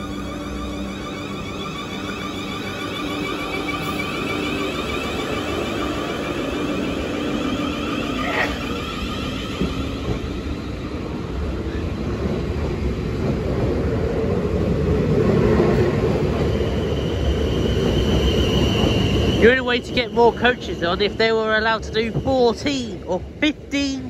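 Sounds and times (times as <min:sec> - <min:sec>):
train wheels rumbling: 0:00.0 - 0:24.0.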